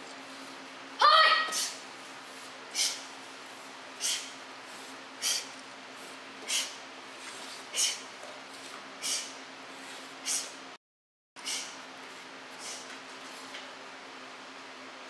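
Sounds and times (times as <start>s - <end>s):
steady low hum: 0.0s - 10.8s, 11.4s - 15.0s.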